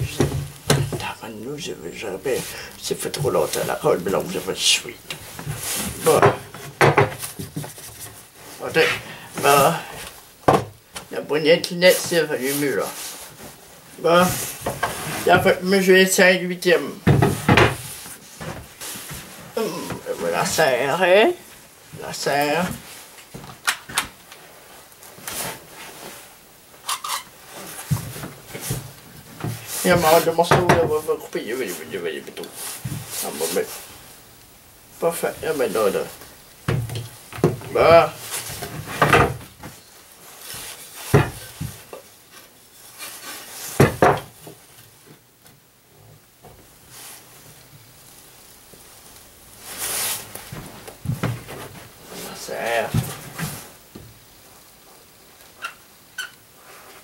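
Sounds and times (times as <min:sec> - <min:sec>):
soft rustling: 0:00.0 - 0:57.0.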